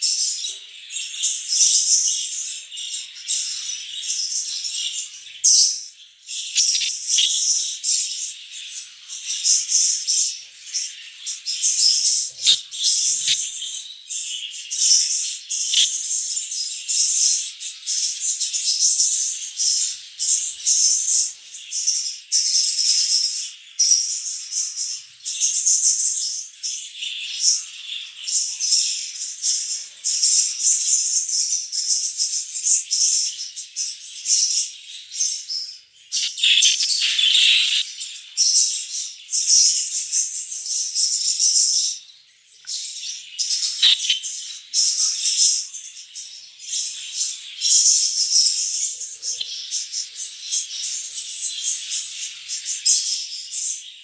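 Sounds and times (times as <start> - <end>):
budgerigars chattering: 0.0 - 26.3, 36.0 - 42.0, 42.7 - 53.7.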